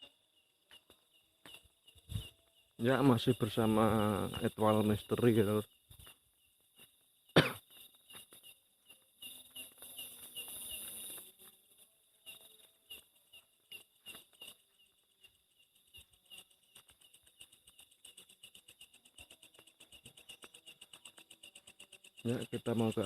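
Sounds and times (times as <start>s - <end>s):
crickets chirping: 0.0s - 23.0s
high insect hiss: 0.0s - 23.0s.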